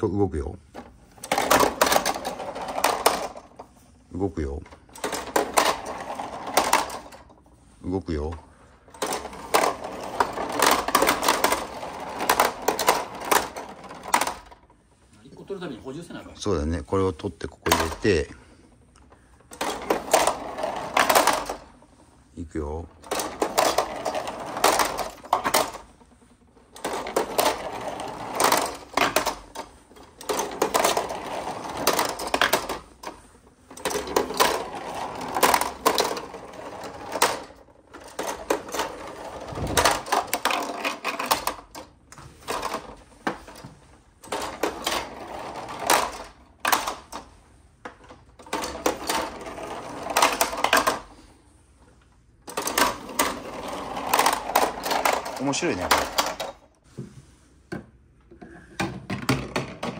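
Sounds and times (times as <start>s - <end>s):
plastic balls rattling down chutes: 0.0s - 14.8s, 15.4s - 51.4s, 52.4s - 56.8s, 58.7s - 59.9s.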